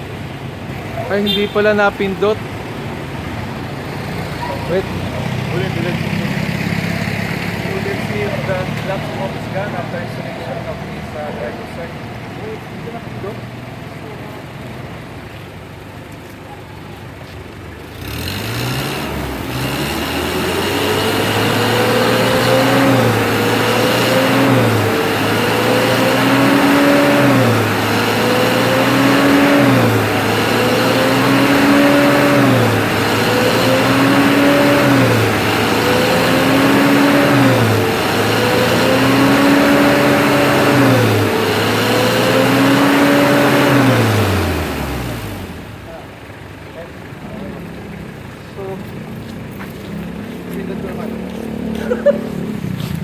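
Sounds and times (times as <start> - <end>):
diesel engine revving: 0.0 - 16.0, 17.7 - 53.0.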